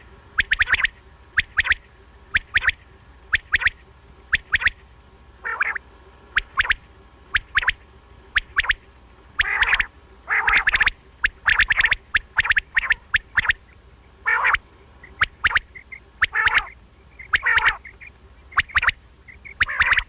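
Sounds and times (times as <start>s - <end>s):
quail calling: 0.0s - 20.0s.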